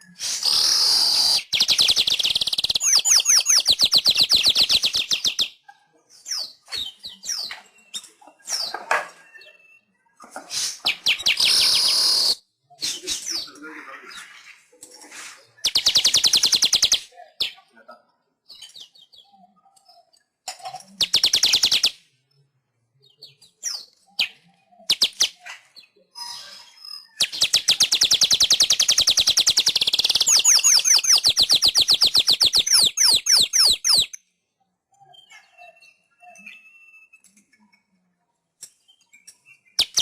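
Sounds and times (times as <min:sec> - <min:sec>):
bird singing buzzy chatter and trill: 0:00.0 - 0:40.0.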